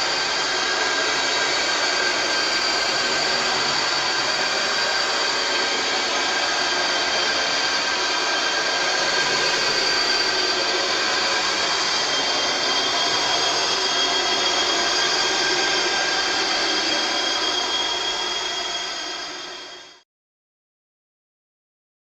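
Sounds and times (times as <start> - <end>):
harsh hissing drone: 0.0 - 20.0.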